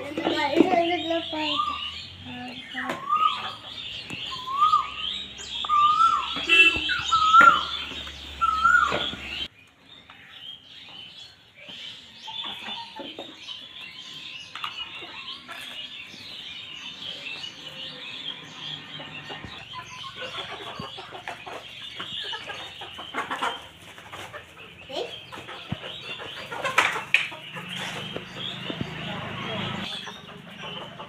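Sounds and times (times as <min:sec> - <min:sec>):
hens clucking: 0:00.0 - 0:09.5, 0:10.9 - 0:31.0.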